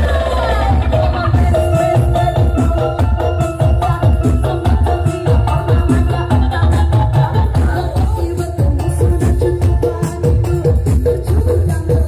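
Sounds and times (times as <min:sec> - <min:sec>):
loud music with pulsing bass: 0:00.0 - 0:12.0.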